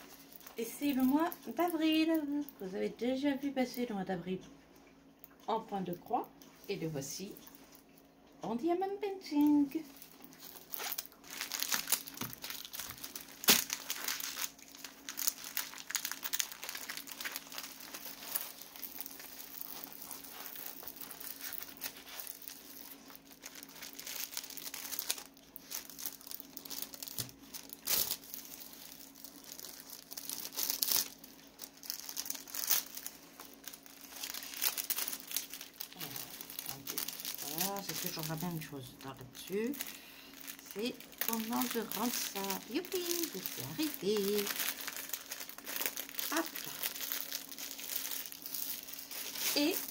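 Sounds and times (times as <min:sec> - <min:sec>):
plastic packaging crinkling: 0:00.0 - 0:02.7, 0:08.8 - 0:49.9.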